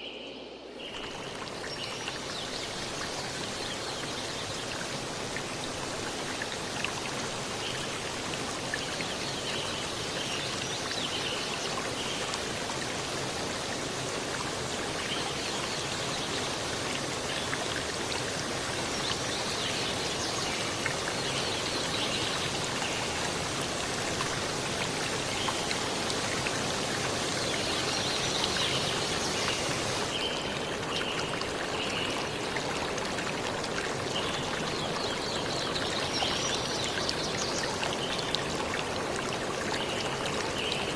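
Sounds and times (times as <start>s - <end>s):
steady rain: 0.6s - 40.9s.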